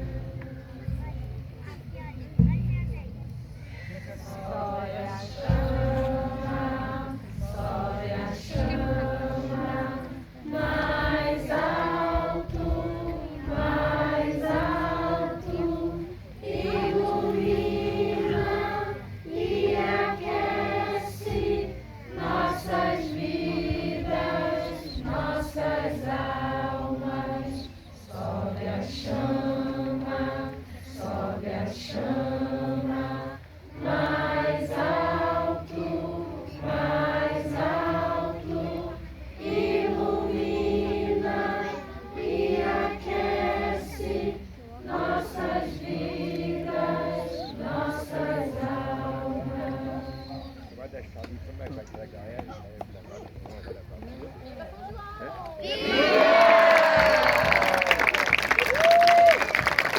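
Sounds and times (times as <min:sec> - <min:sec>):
group singing in unison: 0:00.0 - 0:01.2, 0:03.8 - 0:50.6, 0:55.8 - 0:57.6.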